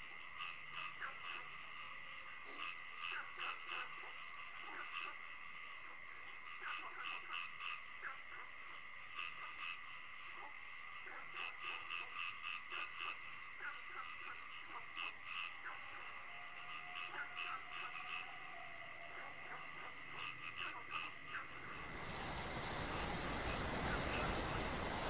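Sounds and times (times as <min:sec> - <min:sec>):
frogs croaking: 0:00.0 - 0:25.0.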